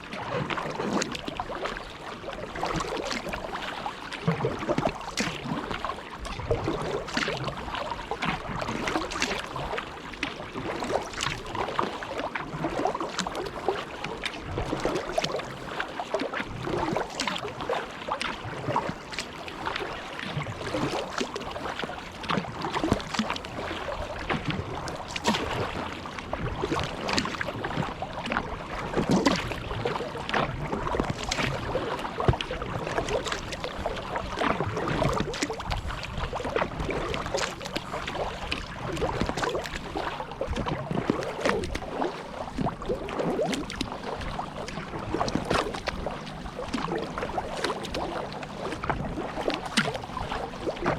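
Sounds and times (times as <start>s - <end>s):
kayak paddle splashing in water: 0.0s - 50.9s
water slapping at hull: 0.0s - 50.9s.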